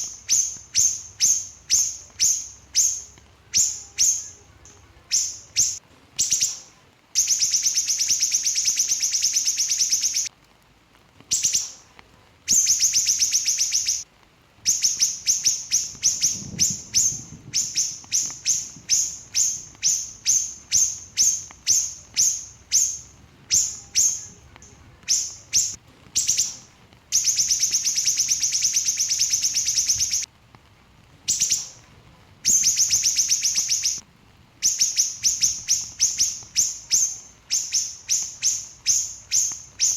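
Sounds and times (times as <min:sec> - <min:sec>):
songbird singing high trills: 0:00.0 - 0:10.3, 0:12.5 - 0:14.0, 0:14.7 - 0:30.3, 0:31.3 - 0:31.8, 0:32.5 - 0:34.0, 0:34.6 - 0:39.9.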